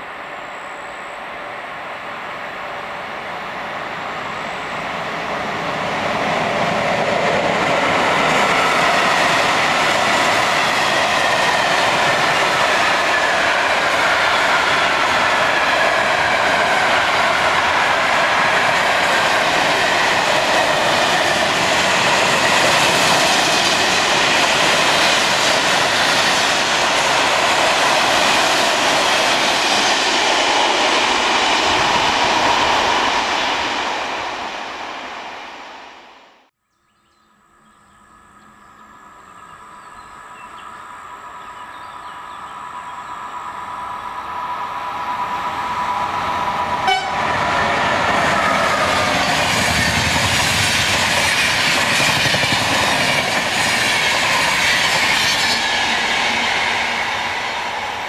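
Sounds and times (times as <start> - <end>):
freight train rumbling past: 0.0 - 36.5, 37.2 - 58.0
approaching electric train: 0.0 - 58.0.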